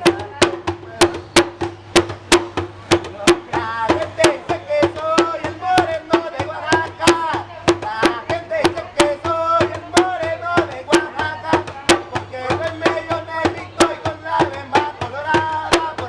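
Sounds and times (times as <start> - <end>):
sharp drum strikes: 0.0 - 16.0
street music melody: 0.0 - 16.0.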